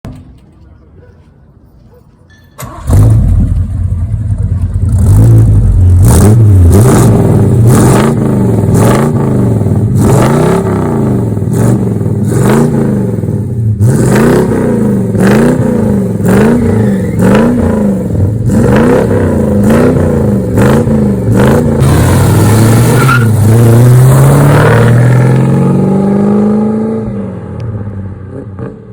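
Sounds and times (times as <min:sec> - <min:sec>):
car engine revving: 0:02.7 - 0:28.9.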